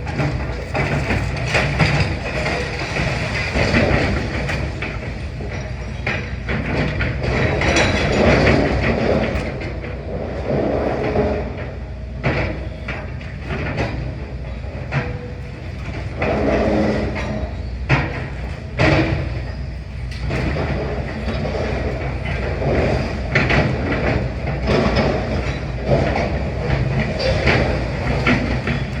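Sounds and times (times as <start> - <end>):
rubble clanking and crunching: 0.0 - 29.0.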